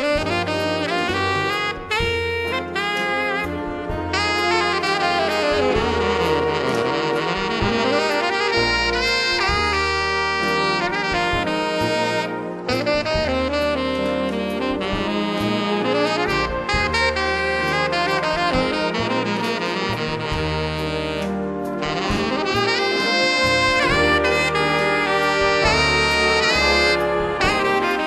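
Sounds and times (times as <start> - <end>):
jazz music with saxophone lead: 0.0 - 28.0.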